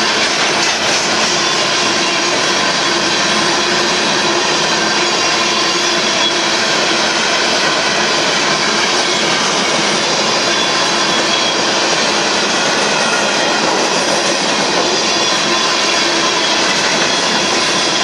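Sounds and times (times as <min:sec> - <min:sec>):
steel wheels running on rails: 0:00.0 - 0:18.0.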